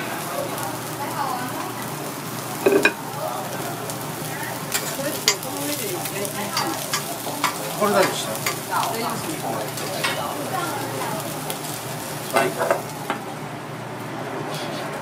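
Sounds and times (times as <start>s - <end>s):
vegetables sizzling on griddle: 0.0s - 13.4s.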